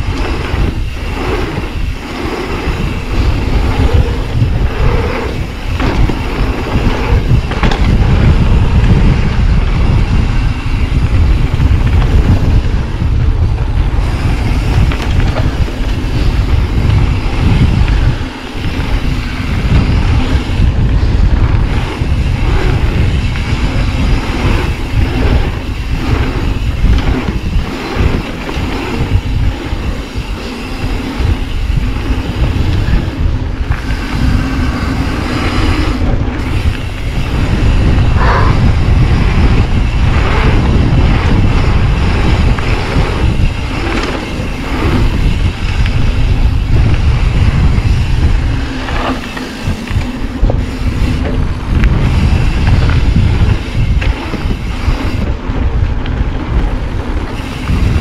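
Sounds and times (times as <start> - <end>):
bike rattling and knocking: 0.0 - 58.0
tyres rolling over dirt: 0.0 - 58.0
wind buffeting microphone: 0.0 - 58.0.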